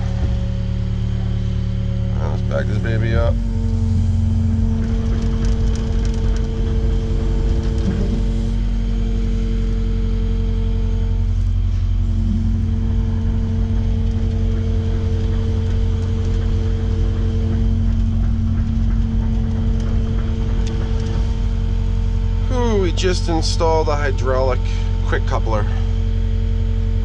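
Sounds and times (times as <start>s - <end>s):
excavator diesel engine droning: 0.0s - 27.0s
pitched whine: 0.0s - 27.0s.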